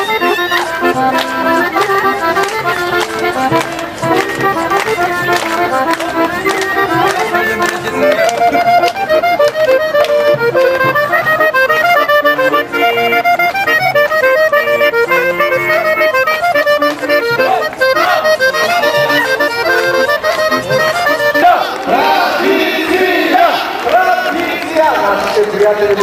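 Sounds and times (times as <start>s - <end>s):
accordion playing folk tune: 0.0s - 26.0s
crowd voices: 0.0s - 26.0s
violin: 0.0s - 26.0s.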